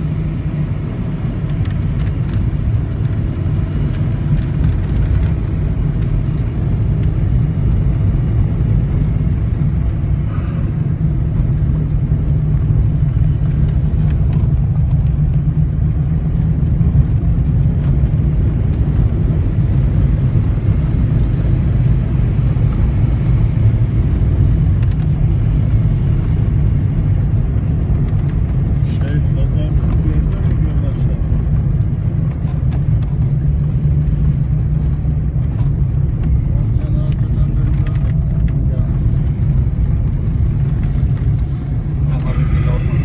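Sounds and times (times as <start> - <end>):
car driving on dirt road: 0.0 - 43.0.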